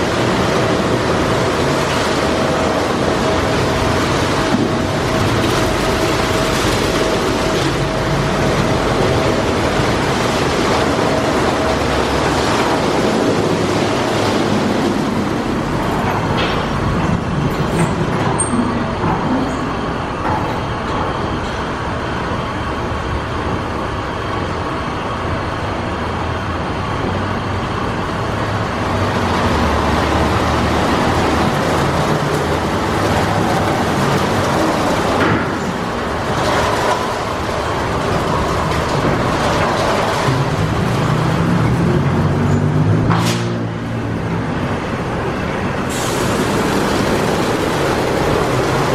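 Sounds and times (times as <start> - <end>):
car wash water spray and machinery: 0.0 - 48.9.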